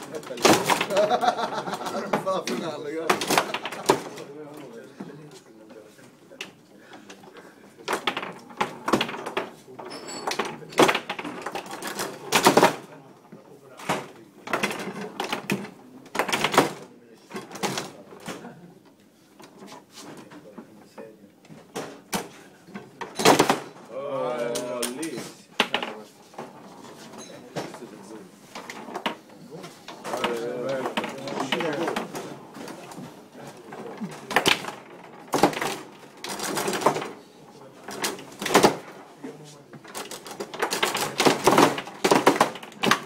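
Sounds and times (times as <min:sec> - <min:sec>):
foosball rods jolting: 0:00.0 - 0:04.4, 0:07.8 - 0:12.9, 0:13.7 - 0:18.4, 0:21.6 - 0:43.0
foosball ball plastic clacks: 0:00.0 - 0:04.7, 0:06.3 - 0:43.0.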